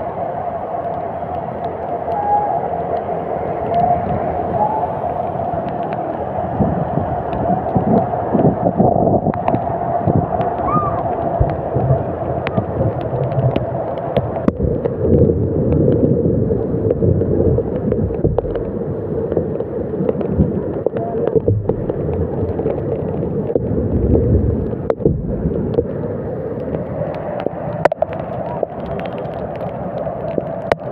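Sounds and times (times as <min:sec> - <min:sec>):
heavy rain: 0:00.0 - 0:30.9
sharp clicks of raindrops: 0:00.0 - 0:30.9
wind rumbling on microphone: 0:00.0 - 0:30.9.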